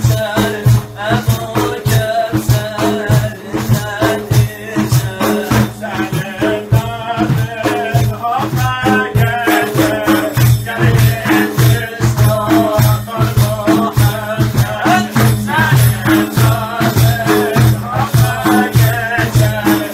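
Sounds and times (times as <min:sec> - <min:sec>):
frame drums with jingles: 0:00.0 - 0:19.9
man singing ornamented line: 0:00.0 - 0:19.9.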